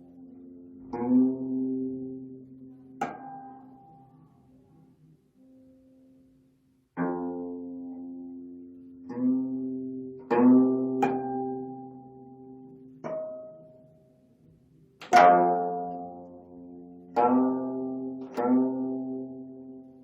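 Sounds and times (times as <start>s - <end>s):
plucked zither notes and chords: 0.0s - 4.2s, 7.0s - 14.2s, 15.0s - 20.0s.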